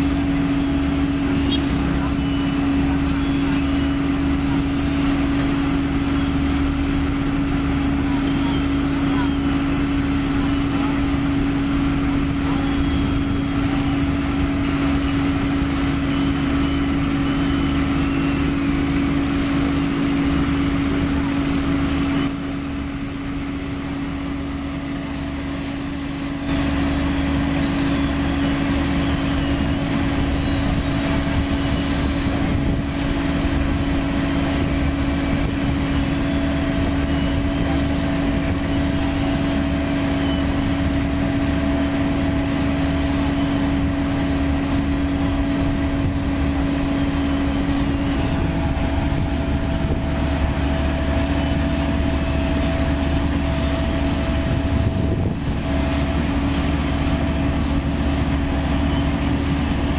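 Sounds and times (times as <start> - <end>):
dump truck engine idling: 0.0 - 59.9
paver diesel engine running: 0.0 - 59.9.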